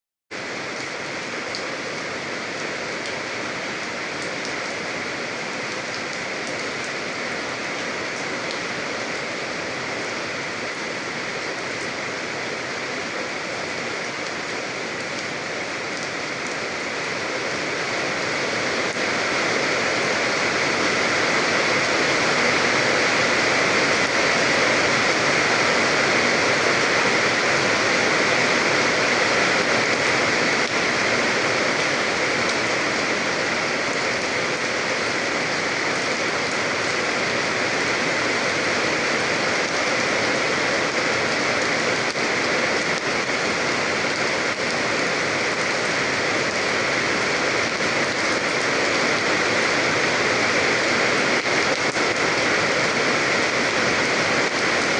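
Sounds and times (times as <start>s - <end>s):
steady rain falling: 0.3s - 54.9s.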